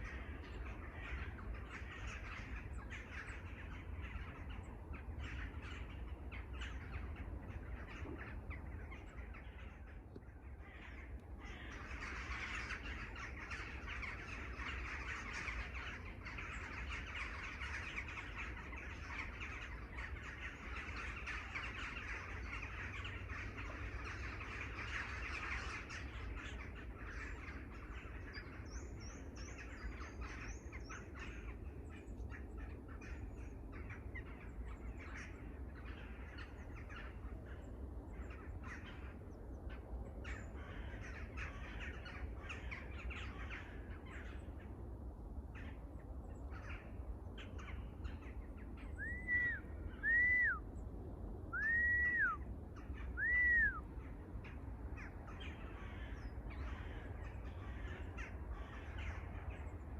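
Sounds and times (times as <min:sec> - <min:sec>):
clear arching bird calls: 0:00.0 - 0:50.8, 0:51.4 - 0:59.9
chorus of wild birds calling: 0:00.0 - 0:59.9.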